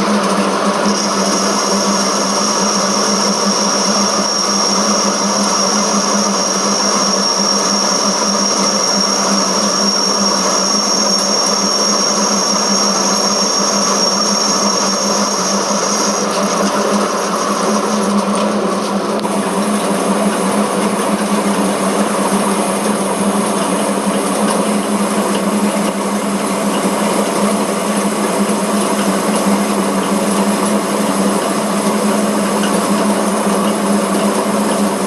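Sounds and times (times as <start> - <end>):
high steady whine: 0.0 - 35.0
metal lathe cutting: 0.0 - 35.0.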